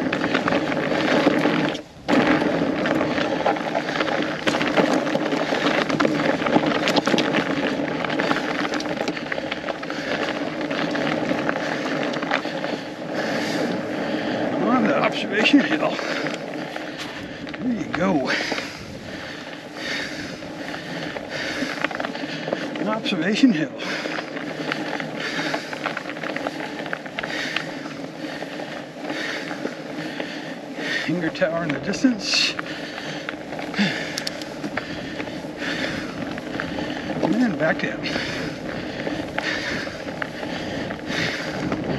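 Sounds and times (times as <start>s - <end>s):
bike clicks and rattles: 0.0s - 41.9s
bike tyres on frozen trail: 0.0s - 41.9s.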